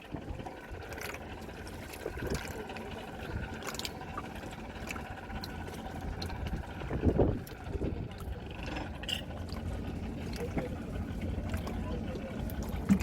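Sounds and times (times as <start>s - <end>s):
water sloshing against boat: 0.0s - 13.0s.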